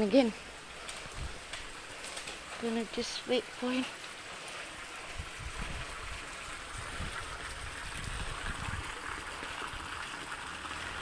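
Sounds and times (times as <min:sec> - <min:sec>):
rain falling: 0:00.0 - 0:11.0
water trickling: 0:00.0 - 0:11.0.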